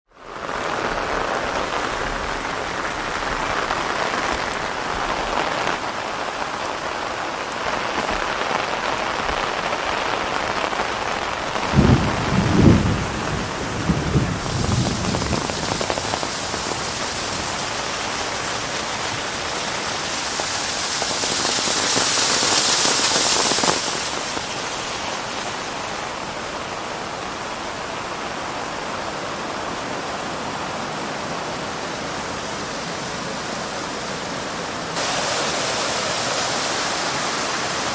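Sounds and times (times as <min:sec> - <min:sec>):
rain falling on foliage: 0:00.1 - 0:37.9.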